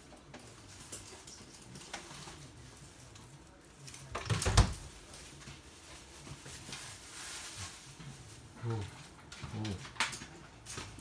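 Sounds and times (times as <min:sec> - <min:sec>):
dogs clicking and scuffling: 0:00.0 - 0:11.0.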